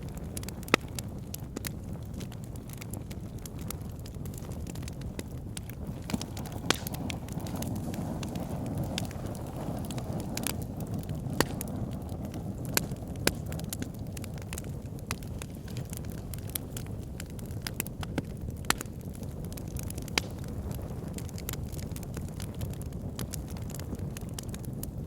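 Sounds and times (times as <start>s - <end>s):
fire crackling: 0.0s - 25.0s
low rush of flames: 0.0s - 25.0s
wood fire snaps and pops: 0.0s - 25.0s.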